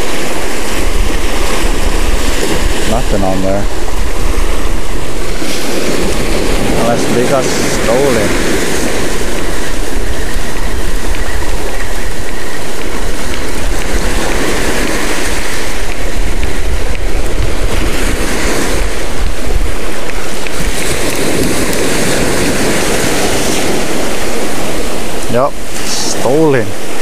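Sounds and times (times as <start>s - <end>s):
small surf waves washing up: 0.0s - 27.0s
wind buffeting microphone: 0.0s - 27.0s.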